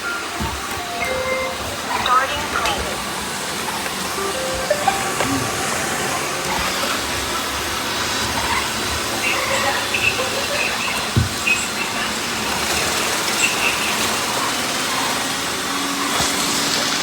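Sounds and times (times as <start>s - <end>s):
robot vacuum cleaners hissing: 0.0s - 17.0s.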